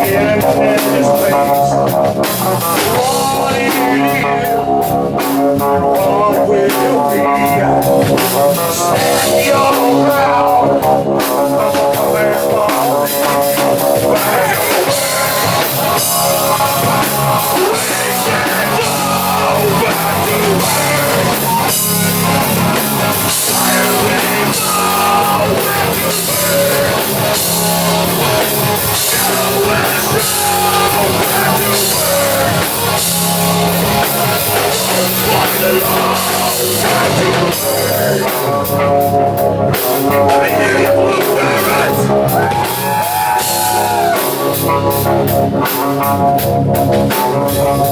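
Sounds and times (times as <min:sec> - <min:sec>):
person singing: 0:00.0 - 0:46.2
drum kit: 0:00.0 - 0:47.9
electric guitar: 0:00.0 - 0:47.9.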